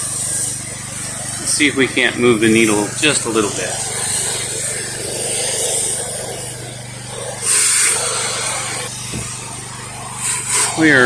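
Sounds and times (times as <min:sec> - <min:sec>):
engine drone: 0:00.0 - 0:11.0
water spray hissing: 0:00.0 - 0:11.0.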